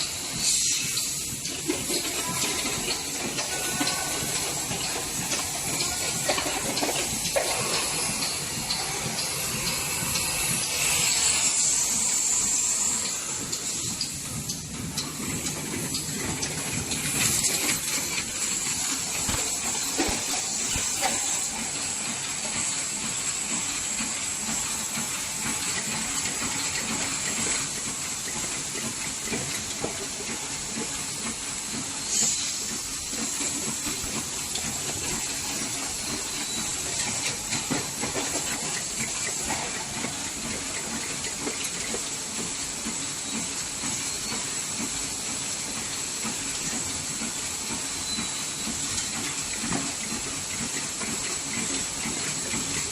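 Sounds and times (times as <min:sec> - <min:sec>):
machine clattering: 0:00.0 - 0:52.9.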